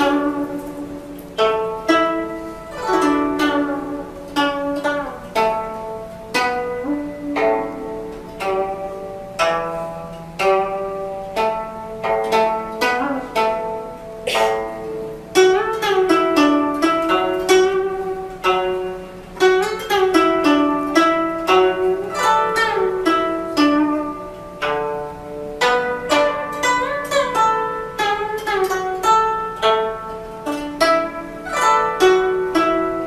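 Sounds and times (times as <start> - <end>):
plucked zither notes: 0.0 - 33.0.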